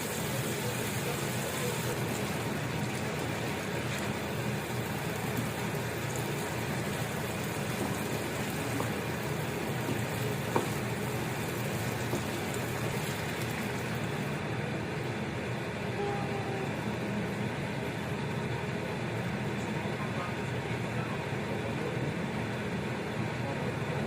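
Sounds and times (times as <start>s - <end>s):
food simmering in a pan: 0.0s - 23.9s.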